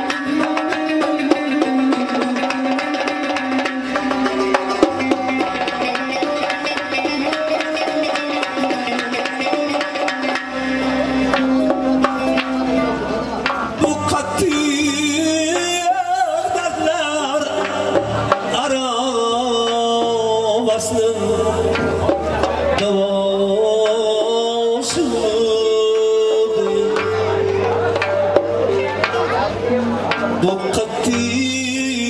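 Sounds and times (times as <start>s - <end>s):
man singing ornamented melody: 0.0s - 10.3s, 12.9s - 29.5s, 30.2s - 32.0s
frame drums beating: 0.0s - 32.0s
keyboard: 0.0s - 32.0s
plucked lutes: 0.0s - 32.0s.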